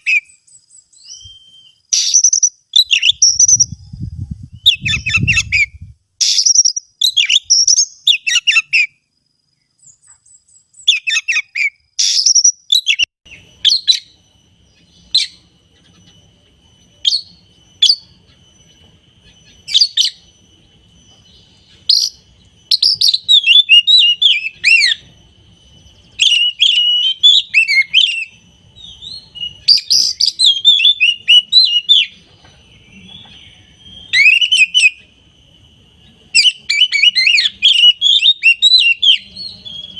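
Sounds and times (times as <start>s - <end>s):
bird singing whistled phrases: 0.0s - 9.0s, 9.8s - 35.1s, 36.0s - 39.9s.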